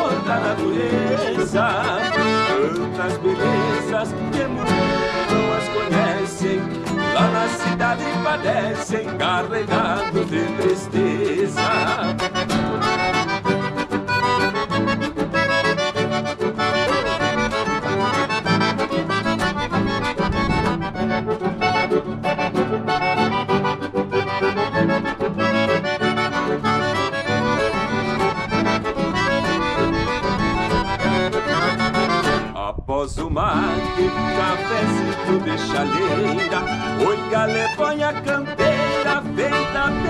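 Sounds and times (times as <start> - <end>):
accordion folk melody: 0.0 - 32.6, 33.5 - 40.0
bass line accompaniment: 0.0 - 40.0.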